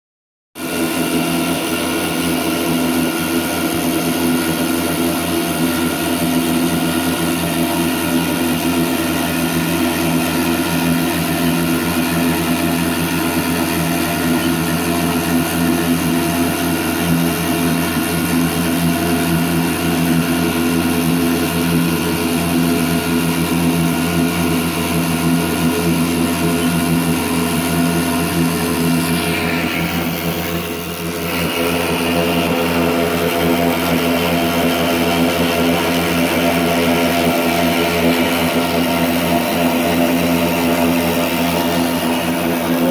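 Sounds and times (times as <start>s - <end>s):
milling machine hum: 0.6s - 42.9s.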